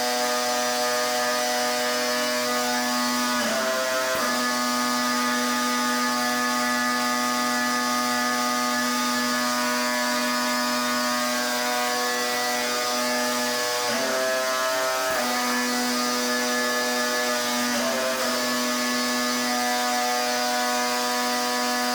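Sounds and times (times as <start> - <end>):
pressure washer running: 0.0 - 21.9.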